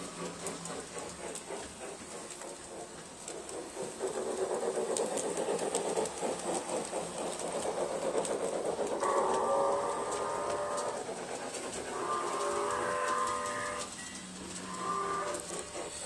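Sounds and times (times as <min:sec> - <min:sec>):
model train motor whirring: 0:00.0 - 0:16.0
wheels clicking on rails: 0:00.0 - 0:16.0.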